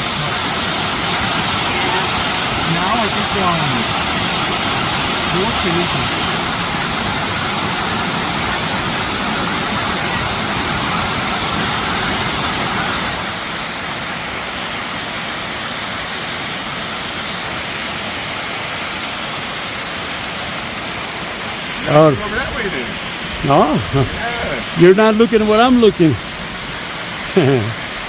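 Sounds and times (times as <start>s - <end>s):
creek waterfall rushing: 0.0s - 28.0s.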